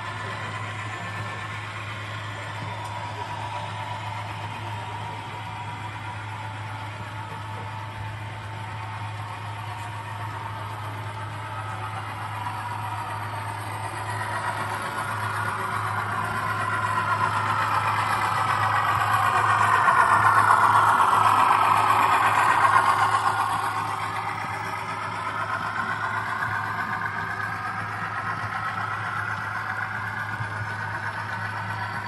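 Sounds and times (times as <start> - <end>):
model train running past: 0.0 - 32.0
steady low hum: 0.0 - 32.0.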